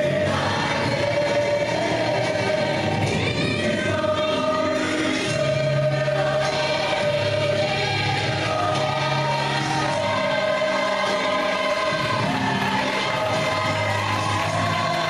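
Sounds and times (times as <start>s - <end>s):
choir singing: 0.0s - 15.0s
music: 0.0s - 15.0s.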